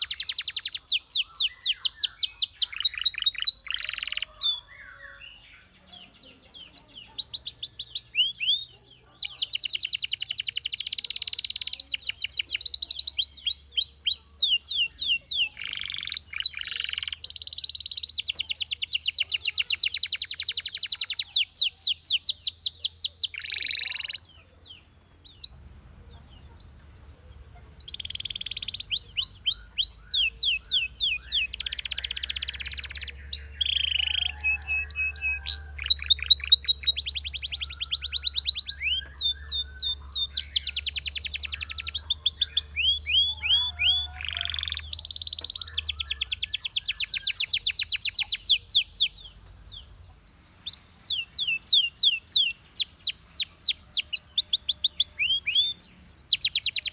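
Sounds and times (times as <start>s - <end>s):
canary singing fast trills: 0.0s - 56.9s.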